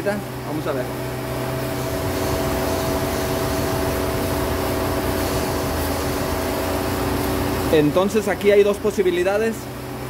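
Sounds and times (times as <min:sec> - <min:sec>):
car engine idling: 0:00.0 - 0:10.0
radiator cooling fan running: 0:00.0 - 0:10.0.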